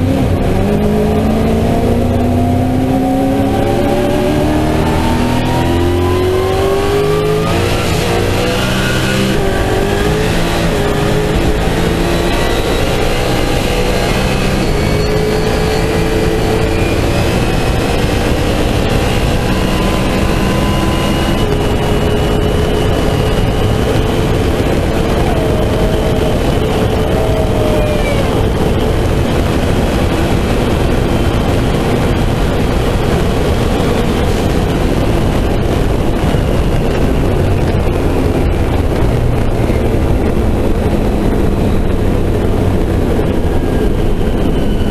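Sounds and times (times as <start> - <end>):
race car engine pulling hard: 0.0 - 44.9
wind and road noise: 0.0 - 44.9.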